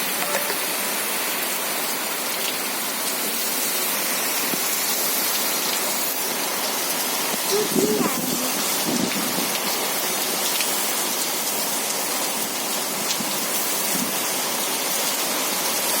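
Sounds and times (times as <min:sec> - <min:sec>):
rain pattering on surfaces: 0:00.0 - 0:16.0.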